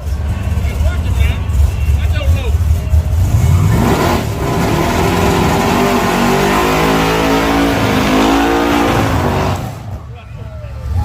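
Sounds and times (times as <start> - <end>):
race car engine at high throttle: 0.0 - 11.0.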